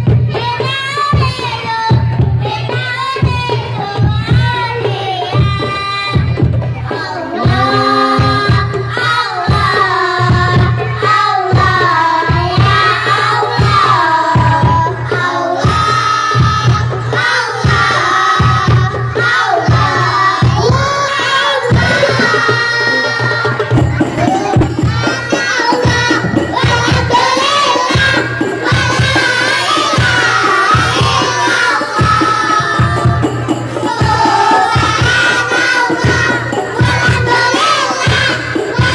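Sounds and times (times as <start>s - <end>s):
children singing in unison: 0.0s - 38.9s
frame drums: 0.0s - 38.9s
large drum steady beat: 0.0s - 38.9s.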